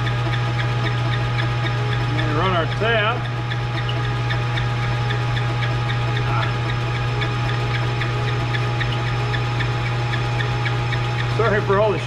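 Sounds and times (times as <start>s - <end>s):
light regular ticking: 0.0s - 12.0s
metal lathe motor hum: 0.0s - 12.0s.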